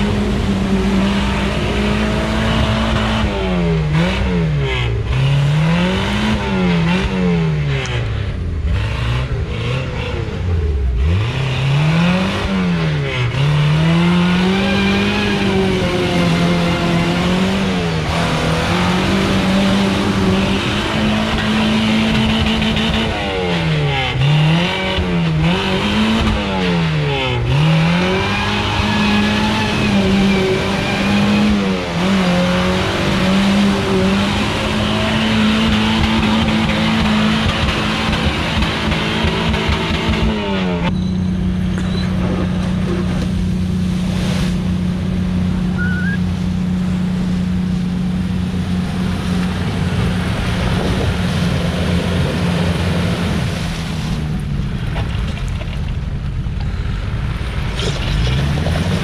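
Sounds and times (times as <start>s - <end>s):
engine driving through water: 0.0s - 59.0s
off-road engine revving: 0.0s - 59.0s.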